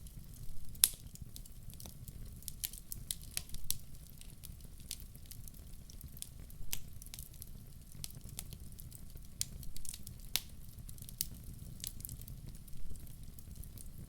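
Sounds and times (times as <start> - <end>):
fire popping: 0.0 - 14.0
low fire rumble: 0.0 - 14.0
wood fire crackling: 0.0 - 14.0.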